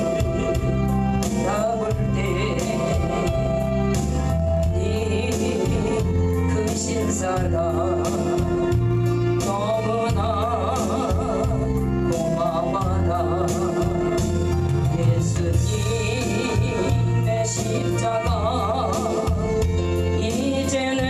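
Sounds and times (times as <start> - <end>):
person singing with vibrato: 0.0 - 21.0
steady bass notes: 0.0 - 21.0.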